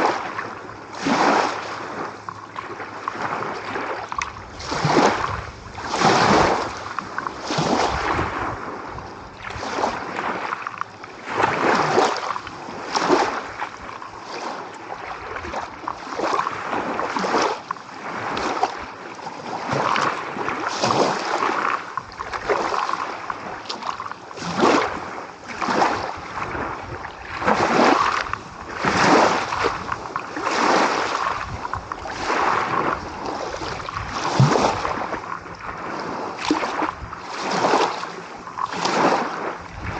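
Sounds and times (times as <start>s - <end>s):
small waves splashing on shore: 0.0s - 39.9s.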